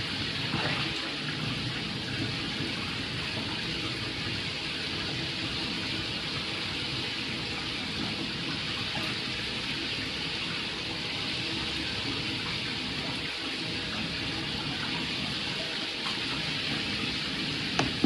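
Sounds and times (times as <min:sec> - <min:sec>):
shower water running: 0:00.0 - 0:18.0
water splashing into tub: 0:00.0 - 0:18.0.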